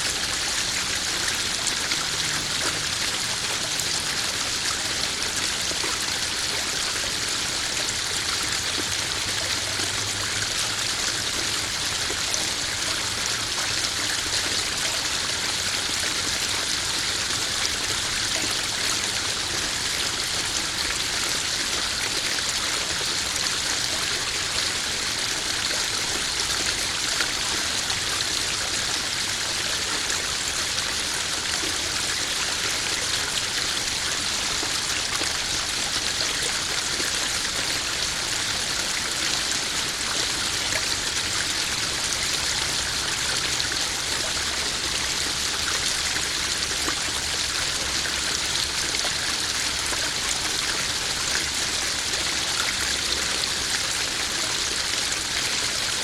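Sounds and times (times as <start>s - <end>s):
small waterfall splashing into pond: 0.0s - 56.0s.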